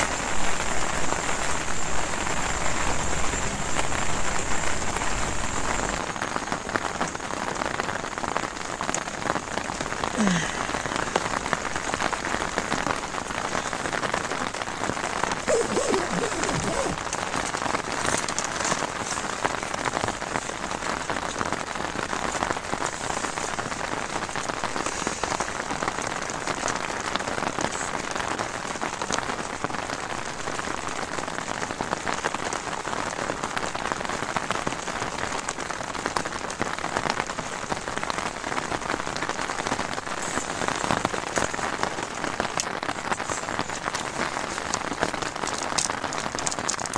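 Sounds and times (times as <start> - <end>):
heavy rain on tent fabric: 0.0 - 46.9.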